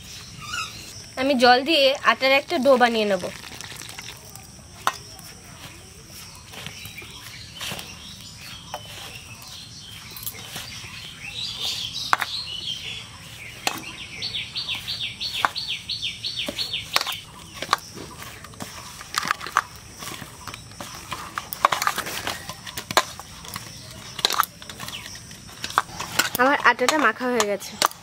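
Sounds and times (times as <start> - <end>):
bird singing: 0.0 - 28.0
dough squelching and tapping metal bowl: 1.9 - 28.0.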